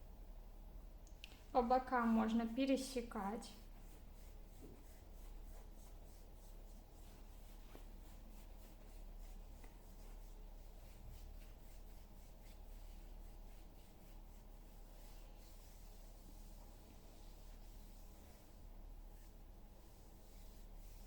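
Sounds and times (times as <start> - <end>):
hands rubbing skin in massage: 3.5 - 21.0.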